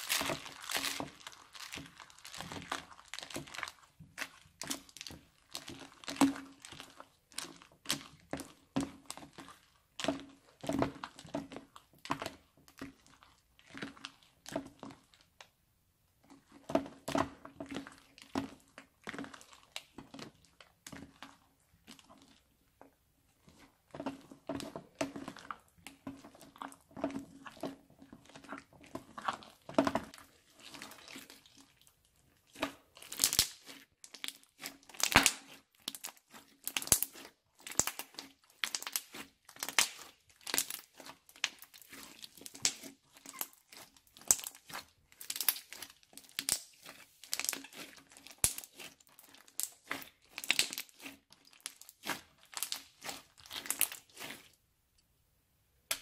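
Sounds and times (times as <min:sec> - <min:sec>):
crunchy slime crackling and popping: 0:00.0 - 0:15.5, 0:16.3 - 0:22.6, 0:23.4 - 0:54.6.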